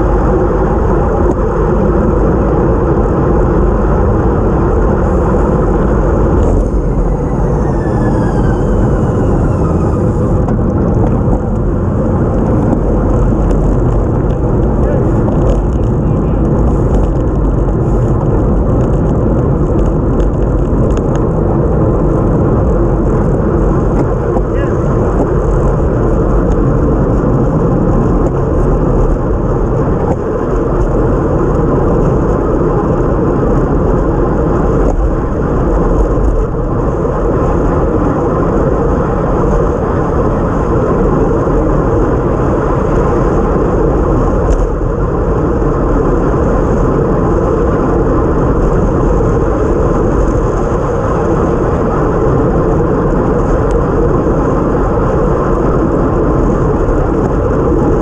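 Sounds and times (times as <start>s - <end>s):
road noise: 0.0s - 58.0s
wind rushing: 1.4s - 58.0s.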